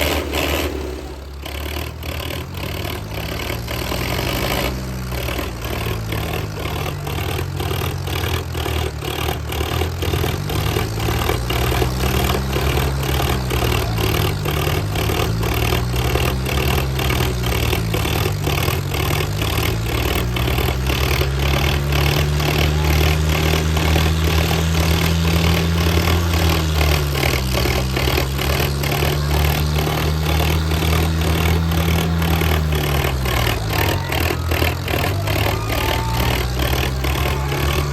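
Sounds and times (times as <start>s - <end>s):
diesel tractor engines labouring: 0.0s - 37.9s.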